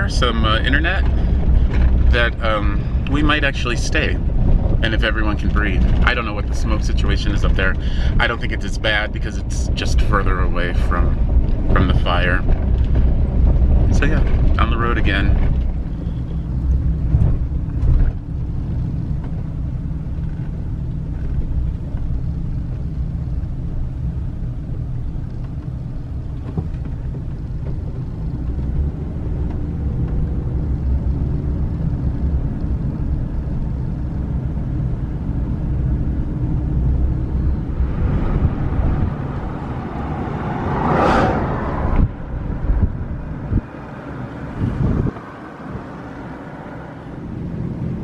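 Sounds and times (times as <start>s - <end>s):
vehicle road rumble: 0.0s - 48.0s.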